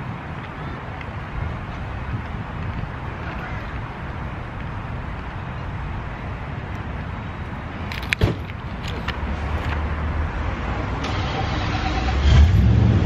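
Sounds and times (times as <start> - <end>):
car approaching: 0.0 - 13.0
street traffic rumble: 0.0 - 13.0.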